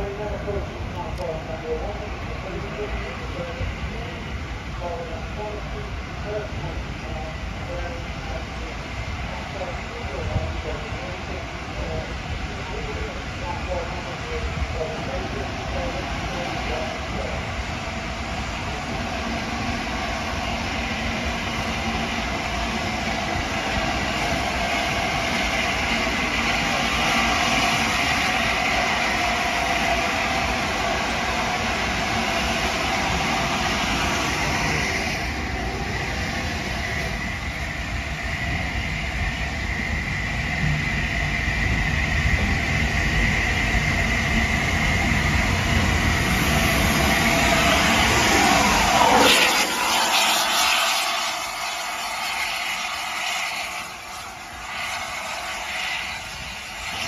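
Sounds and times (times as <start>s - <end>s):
steam train rushing rail noise: 0.0s - 57.0s.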